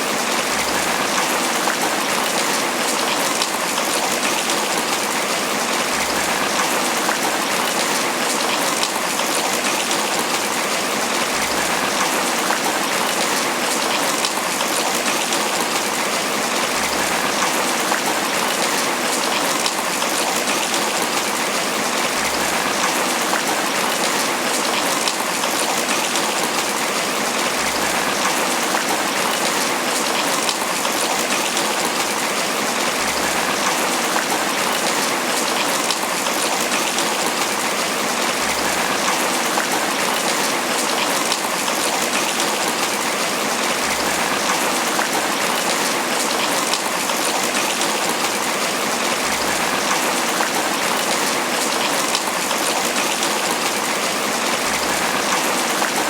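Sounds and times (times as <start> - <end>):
heavy rain pattering on leaves: 0.0 - 56.0.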